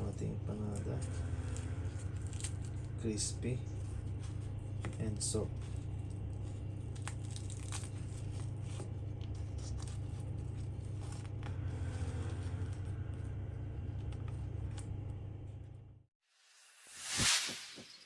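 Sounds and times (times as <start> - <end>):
steady low hum: 0.0 - 16.1.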